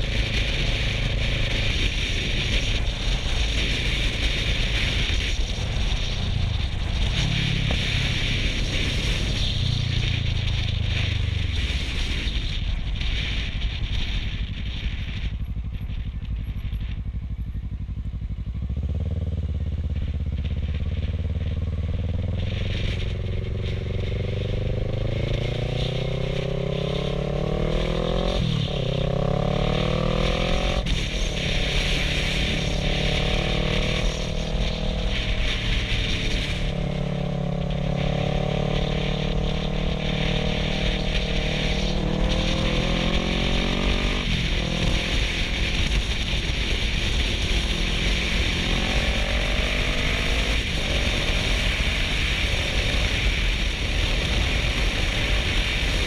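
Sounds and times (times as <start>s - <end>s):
motorcycle engine accelerating: 0.0s - 56.0s
wind noise on microphone: 0.0s - 56.0s.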